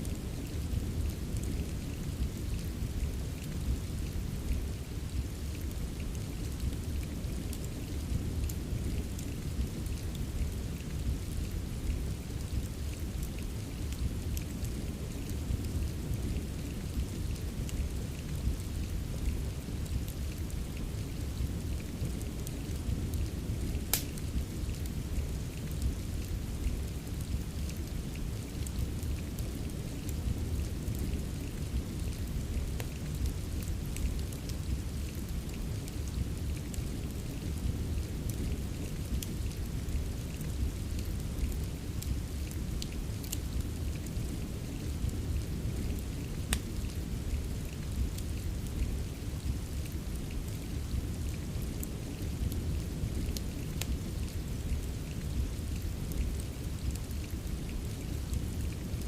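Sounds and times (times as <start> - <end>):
fireplace crackles: 0.0 - 59.0
steady rain: 0.0 - 59.0.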